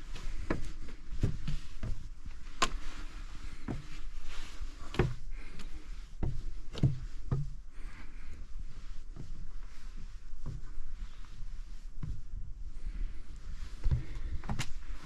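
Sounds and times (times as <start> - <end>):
footsteps on stairs: 0.0 - 15.0
low steady rumble: 0.0 - 15.0.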